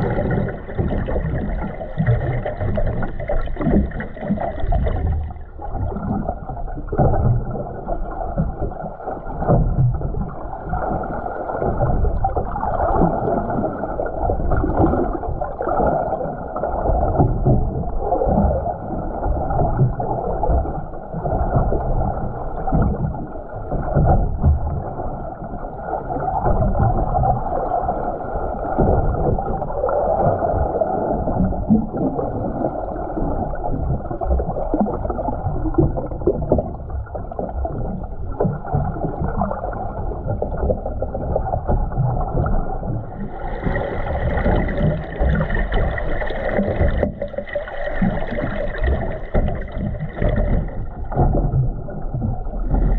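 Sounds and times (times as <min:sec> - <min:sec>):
underwater sloshing and rumbling: 0:00.0 - 0:52.9.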